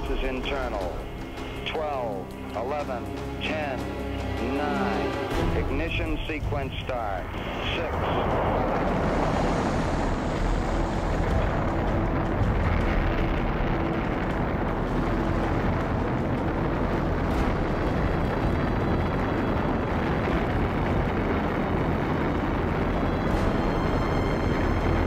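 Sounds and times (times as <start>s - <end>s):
rocket engines rumbling: 0.0s - 25.0s.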